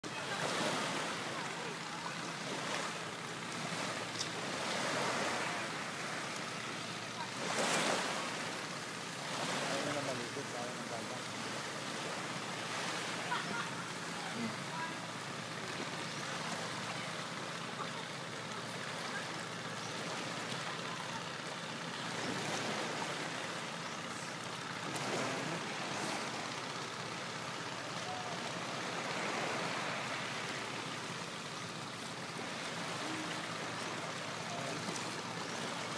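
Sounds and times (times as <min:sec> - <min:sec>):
sea water sloshing and lapping: 0:00.0 - 0:35.9.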